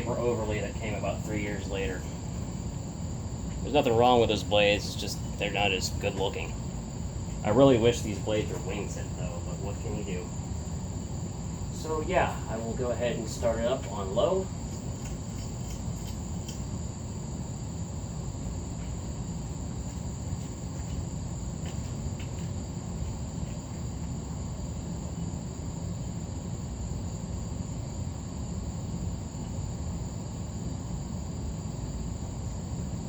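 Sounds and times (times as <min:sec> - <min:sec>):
ceiling fan humming: 0:00.0 - 0:33.0.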